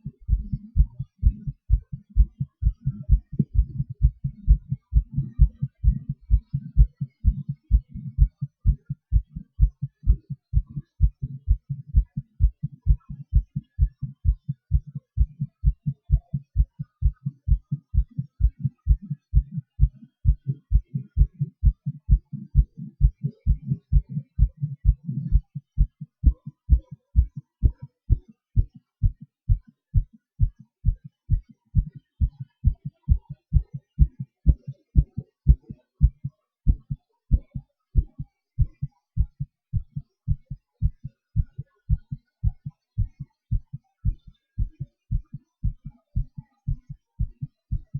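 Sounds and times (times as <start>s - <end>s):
heartbeat thumps: 0.0s - 47.9s.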